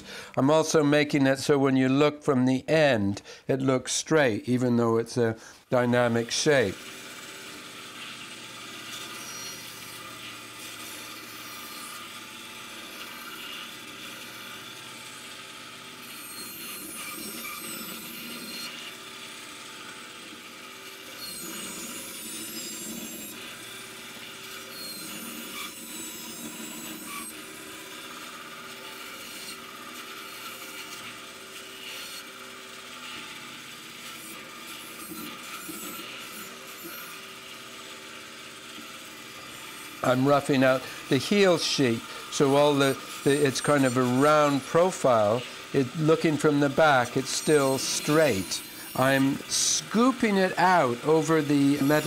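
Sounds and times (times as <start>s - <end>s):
bandsaw cutting wood: 5.4s - 52.0s.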